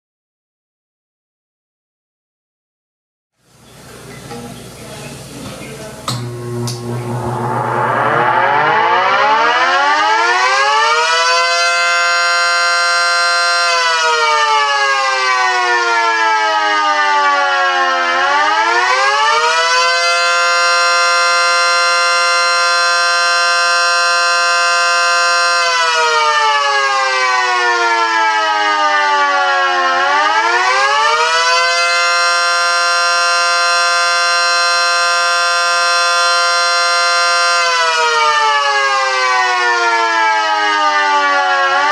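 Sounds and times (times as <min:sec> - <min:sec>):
dual-tone siren wailing: 0:06.1 - 0:41.9.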